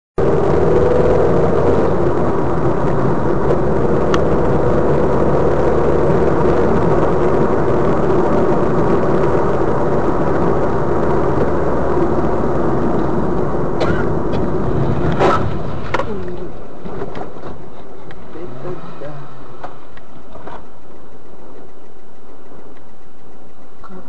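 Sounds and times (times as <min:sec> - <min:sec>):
car engine drone: 0:00.2 - 0:24.0
tyres on road: 0:00.2 - 0:24.0.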